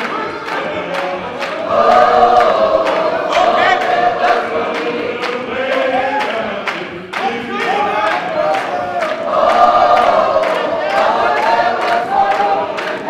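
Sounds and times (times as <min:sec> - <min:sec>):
congregation singing: 0:00.0 - 0:13.0.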